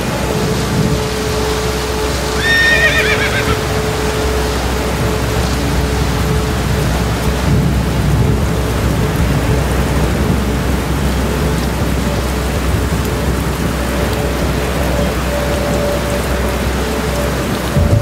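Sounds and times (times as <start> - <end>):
low rumble of thunder: 0.0 - 18.0
rain hissing: 0.0 - 18.0.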